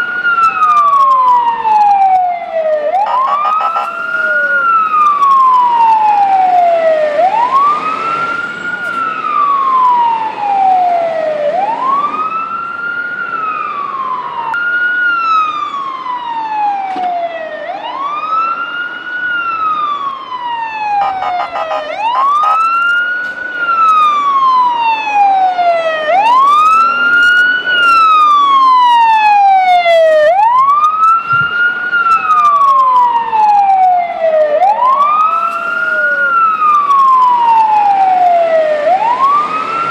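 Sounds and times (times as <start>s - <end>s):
fire engine siren wailing: 0.0s - 39.9s.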